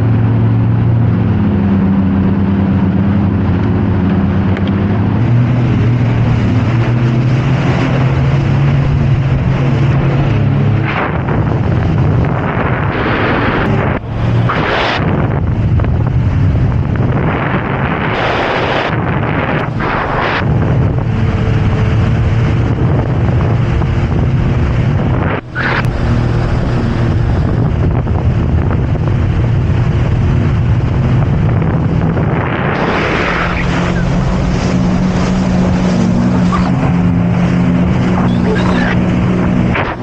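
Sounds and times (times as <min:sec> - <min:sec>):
jet ski engine running: 0:00.0 - 0:40.0
wind buffeting microphone: 0:00.0 - 0:40.0.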